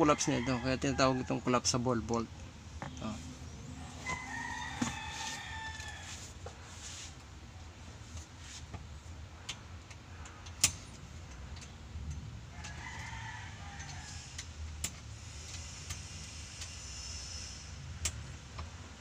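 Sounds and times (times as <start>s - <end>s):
low background rumble: 0.6s - 16.6s.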